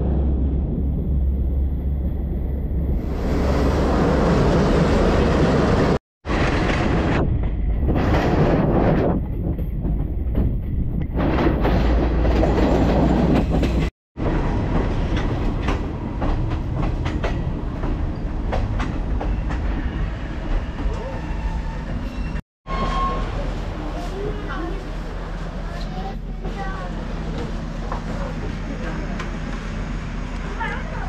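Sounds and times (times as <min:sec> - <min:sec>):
train wheels and engine rumbling: 0:00.0 - 0:31.0.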